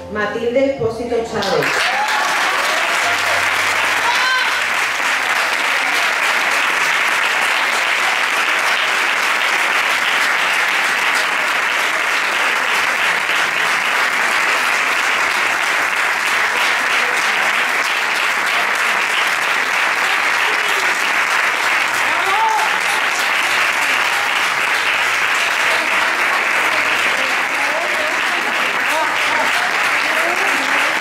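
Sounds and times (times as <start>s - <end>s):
audience applauding: 1.4s - 31.0s.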